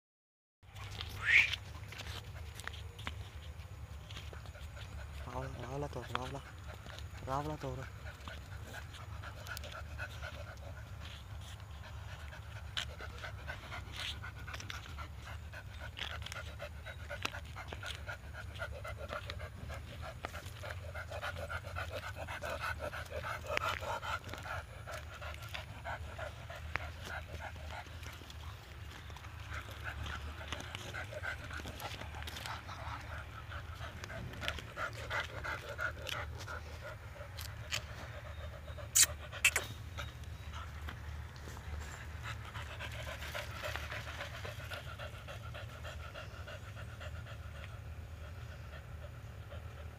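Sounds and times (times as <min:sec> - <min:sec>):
dog panting fast: 0:01.8 - 0:49.9.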